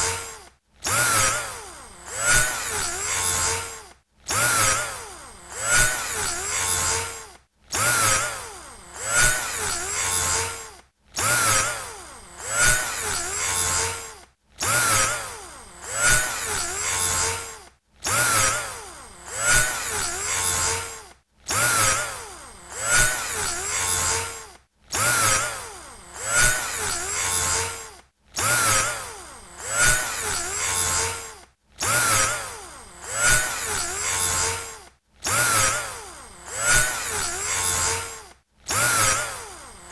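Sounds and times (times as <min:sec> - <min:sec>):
electric drill motor whirring: 0:00.0 - 0:39.9.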